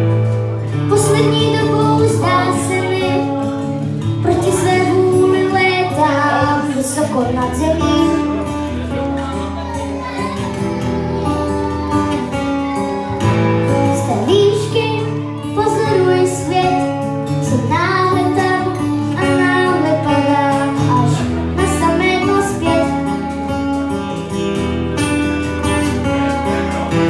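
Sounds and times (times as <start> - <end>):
rock band playing: 0.0 - 27.0
child singing into microphone: 0.7 - 8.6, 9.2 - 24.1.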